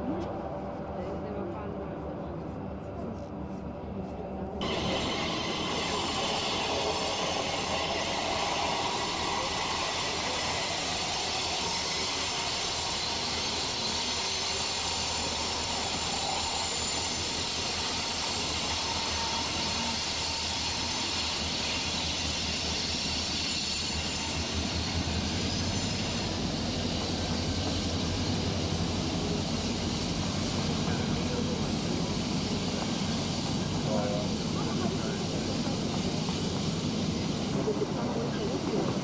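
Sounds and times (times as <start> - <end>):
diesel locomotive engines droning: 0.0 - 39.0.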